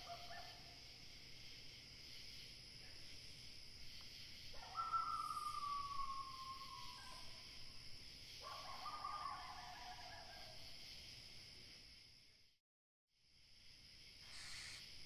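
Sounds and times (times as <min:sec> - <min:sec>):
night insects chorus: 0:00.0 - 0:12.6, 0:13.2 - 0:15.0.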